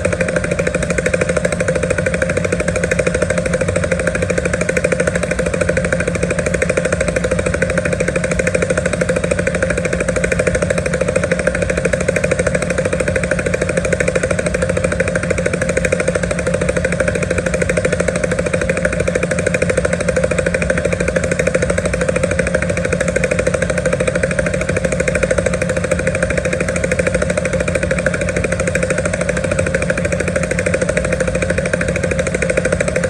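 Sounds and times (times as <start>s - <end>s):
helicopter rotor chopping: 0.0s - 33.0s.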